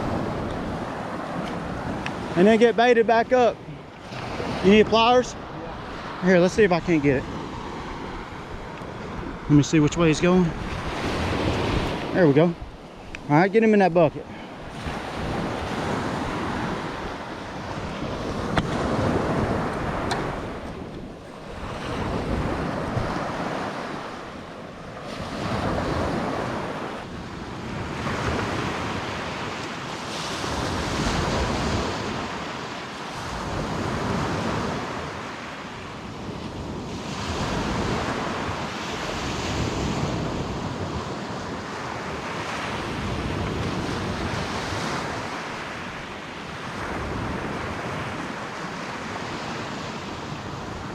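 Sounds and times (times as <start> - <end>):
surf breaking on sandy beach: 0.0 - 50.9
wind buffeting microphone: 0.0 - 50.9.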